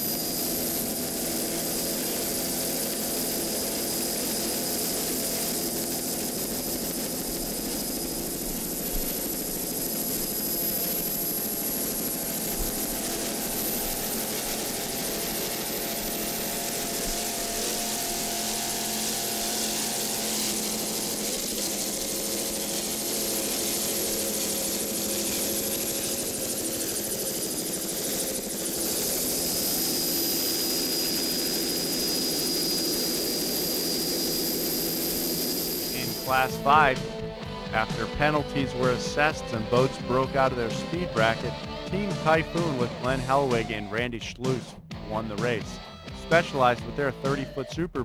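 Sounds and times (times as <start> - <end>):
high-pitched whine: 0.0 - 47.6
helicopter engine and rotor: 0.0 - 47.8.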